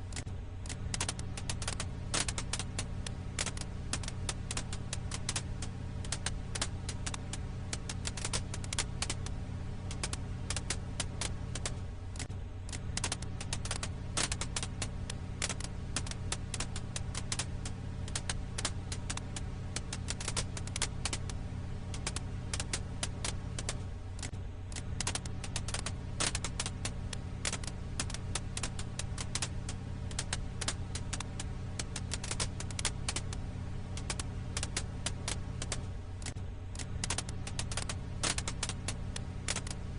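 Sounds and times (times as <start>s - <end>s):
firewood crackling: 0.0s - 39.9s
low hum: 0.0s - 39.9s.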